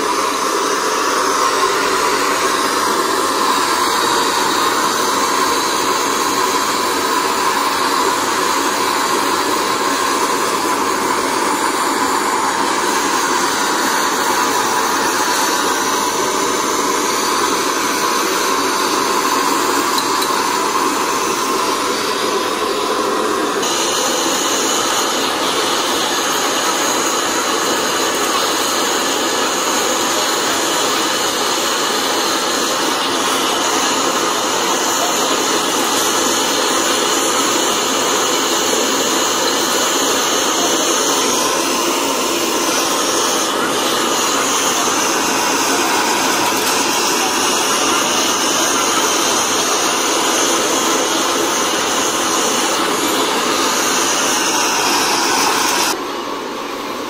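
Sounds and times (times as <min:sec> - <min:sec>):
blowtorch hissing: 0:00.0 - 0:57.0.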